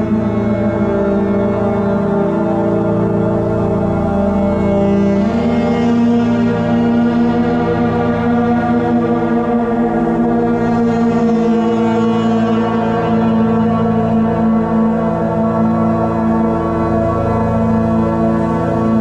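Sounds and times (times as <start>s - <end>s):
pipe organ drone: 0.0s - 19.0s.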